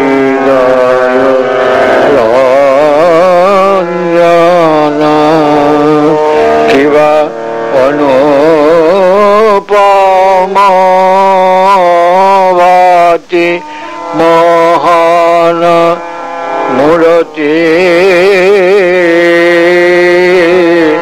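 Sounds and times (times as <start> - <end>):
man singing devotional song: 0.0 - 21.0
steady held drone: 0.0 - 21.0.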